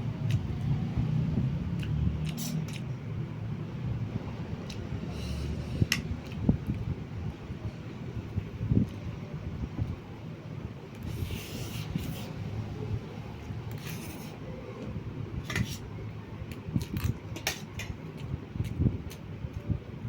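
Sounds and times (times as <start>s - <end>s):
fan-like hum: 0.0s - 20.0s.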